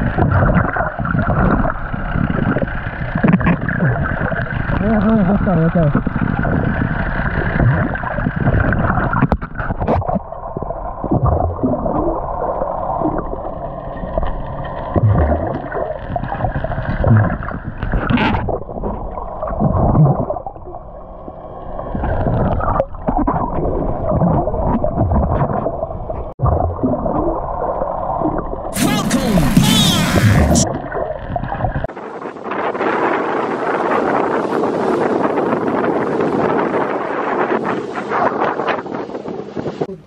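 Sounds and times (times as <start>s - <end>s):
dull low water surge: 0.0s - 40.0s
muffled underwater water sloshing: 0.0s - 40.0s.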